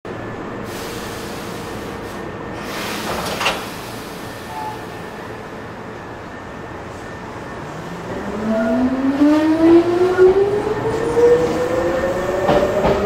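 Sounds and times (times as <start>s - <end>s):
electric train humming: 0.1s - 13.0s.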